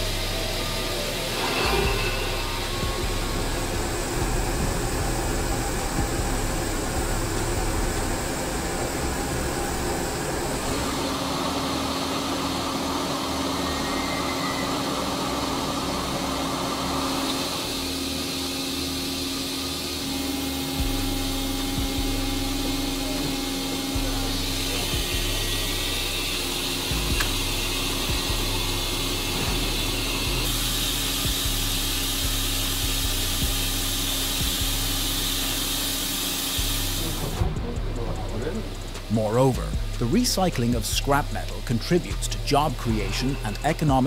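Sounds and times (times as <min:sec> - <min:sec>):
low hum: 0:00.0 - 0:36.0
foundry machinery roaring and hissing: 0:00.0 - 0:44.0.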